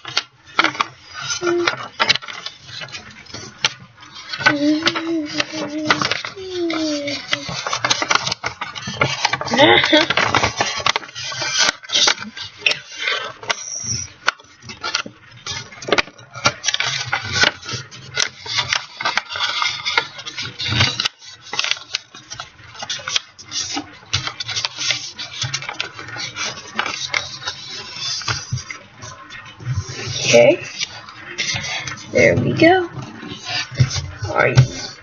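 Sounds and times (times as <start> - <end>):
paper being folded and creased: 0.0 - 35.0.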